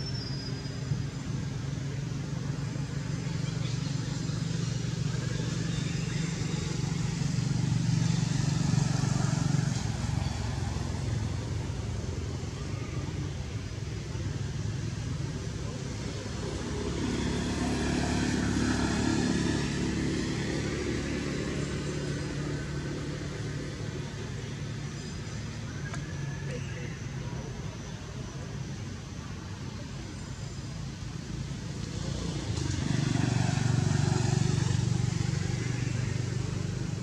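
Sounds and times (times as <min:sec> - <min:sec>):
engine low hum: 0:00.0 - 0:37.0
higher engine hum: 0:00.0 - 0:37.0.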